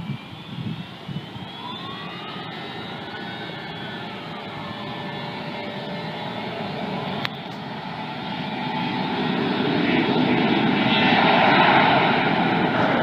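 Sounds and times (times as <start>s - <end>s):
jet airliner engines: 0.0s - 13.0s.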